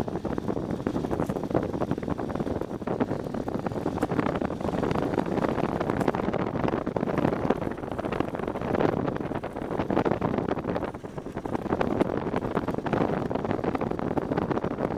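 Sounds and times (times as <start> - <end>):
motorcycle engine: 0.0 - 14.9
wind buffeting microphone: 0.0 - 14.9
tyres on gravel: 0.2 - 14.6.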